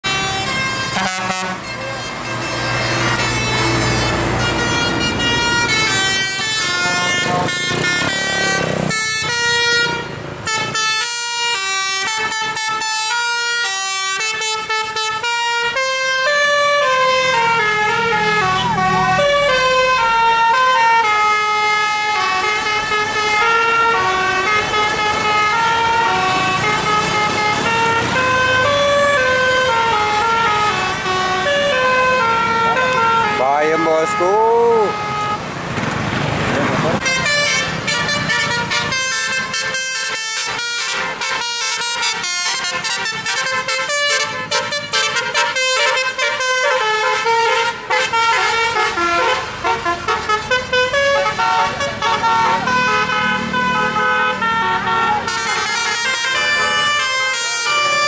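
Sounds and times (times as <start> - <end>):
musical air horn melody: 0.0 - 35.5, 37.0 - 58.0
bus engine rumble: 0.0 - 58.0.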